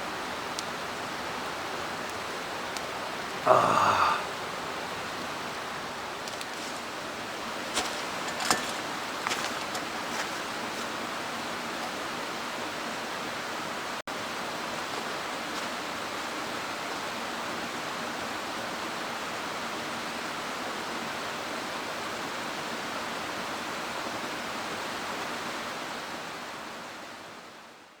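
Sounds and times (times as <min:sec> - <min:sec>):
mountain stream rushing: 0:00.0 - 0:28.0.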